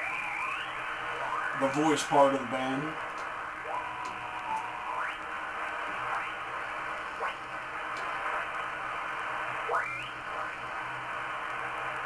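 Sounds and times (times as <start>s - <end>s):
radio signals sweeping in pitch: 0.0s - 10.6s
radio band noise hiss: 0.0s - 12.0s.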